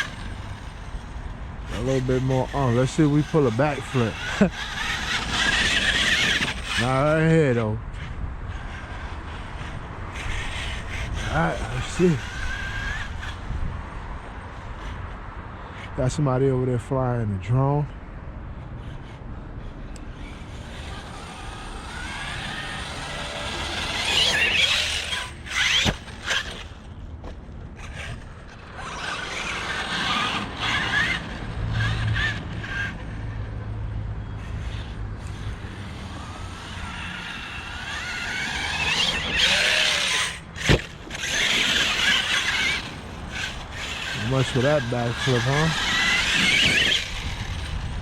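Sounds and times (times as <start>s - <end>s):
rc truck motor whining: 0.0s - 16.0s, 18.6s - 48.0s.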